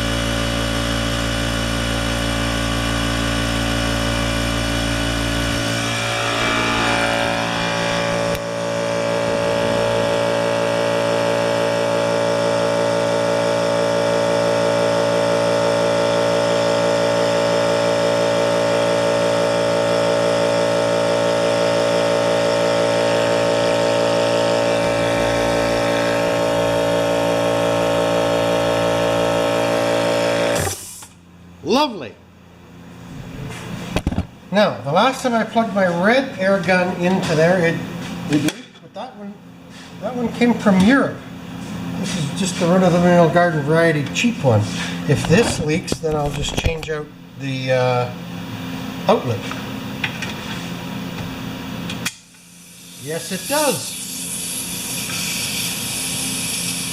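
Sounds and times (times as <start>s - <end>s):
air compressor running: 0.0s - 56.9s.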